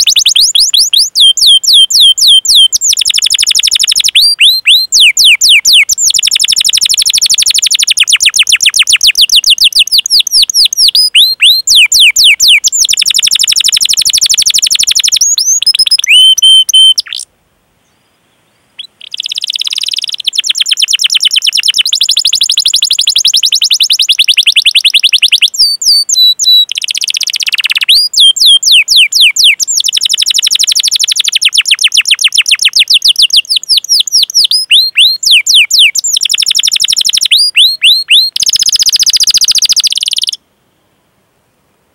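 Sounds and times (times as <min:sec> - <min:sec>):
canary singing trills: 0:00.0 - 0:18.0, 0:18.8 - 0:40.4.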